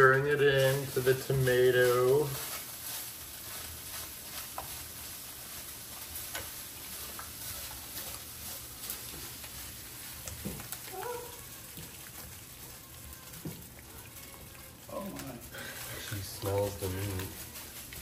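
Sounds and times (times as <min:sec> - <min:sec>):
spatula stirring thick sauce: 0:00.0 - 0:18.0.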